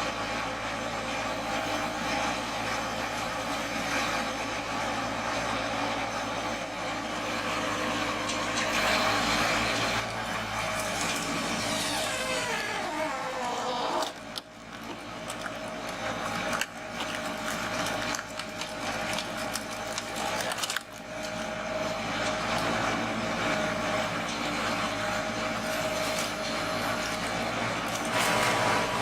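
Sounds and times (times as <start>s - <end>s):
wood chipper running: 0.0s - 29.0s.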